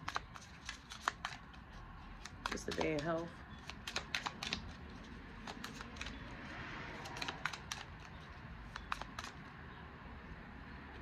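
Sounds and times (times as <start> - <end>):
cards being shuffled: 0.0 - 6.3, 6.9 - 9.5.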